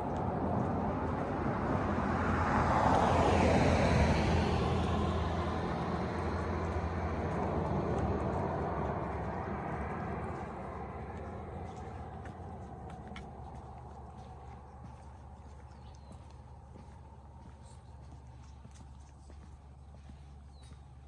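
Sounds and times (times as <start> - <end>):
car driving past: 0.1 - 18.1.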